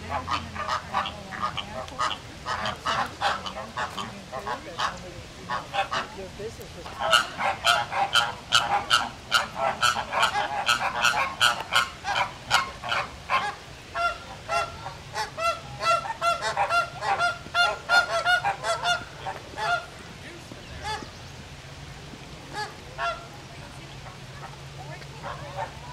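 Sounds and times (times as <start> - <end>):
flamingos honking: 0.0 - 25.9.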